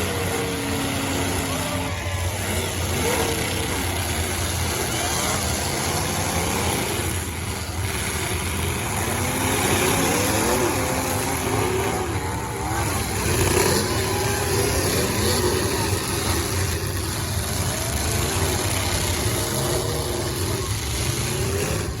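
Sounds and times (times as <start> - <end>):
car engines revving and idling: 0.0 - 22.0.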